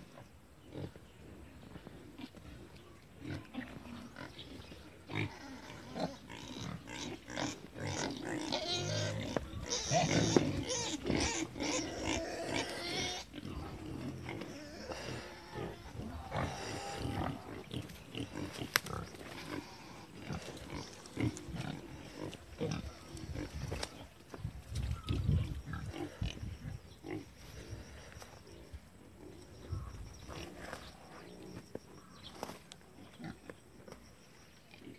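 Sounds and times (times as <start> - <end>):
pigs grunting: 0.0 - 32.3, 32.9 - 33.8.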